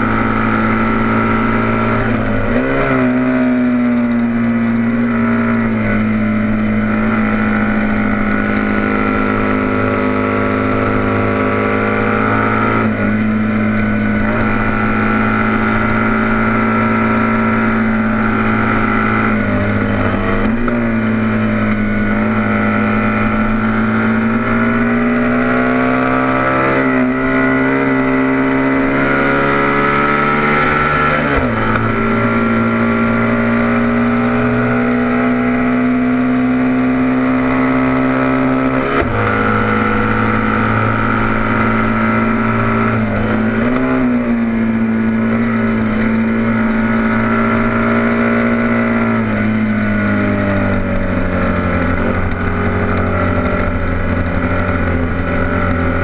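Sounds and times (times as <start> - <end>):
racing motorcycle engine high revs: 0.0 - 56.0.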